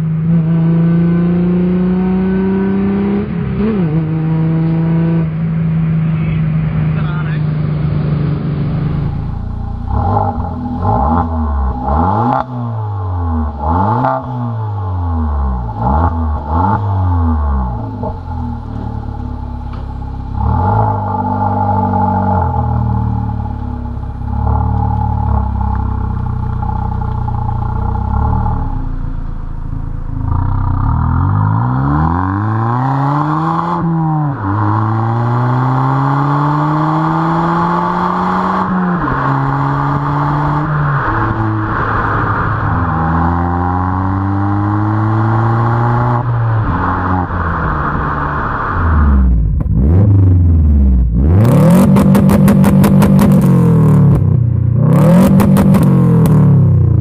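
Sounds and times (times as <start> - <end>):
car engine accelerating through gears: 0.0 - 57.0
turbocharged engine revving: 0.0 - 57.0.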